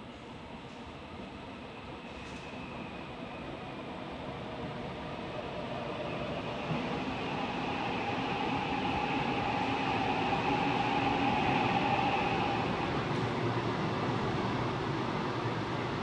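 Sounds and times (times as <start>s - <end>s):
steady train whine: 0.0s - 16.0s
train rumble in tunnel: 0.0s - 16.0s.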